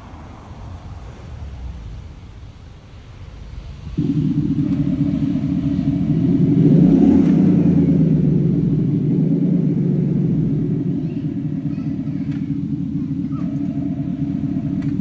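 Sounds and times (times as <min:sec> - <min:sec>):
synthesized exhaust rumble: 0:00.6 - 0:15.0.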